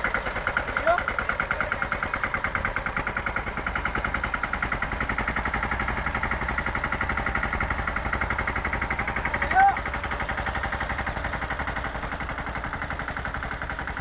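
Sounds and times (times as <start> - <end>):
sprayer pump pulsing: 0.0 - 14.0
tractor diesel engine running: 0.0 - 14.0.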